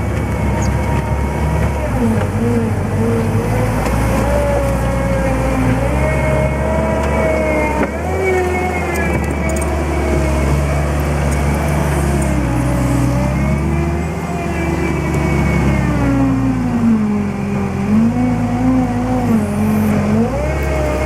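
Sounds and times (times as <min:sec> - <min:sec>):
diesel engine running: 0:00.0 - 0:21.0
hydraulic whine: 0:00.0 - 0:21.0.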